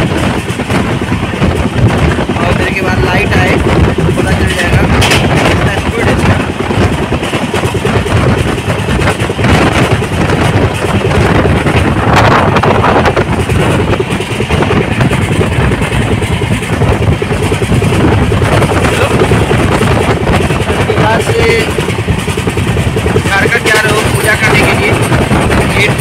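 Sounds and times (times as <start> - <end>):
rushing air: 0.0 - 26.0
train wheels rumbling on track: 0.0 - 26.0.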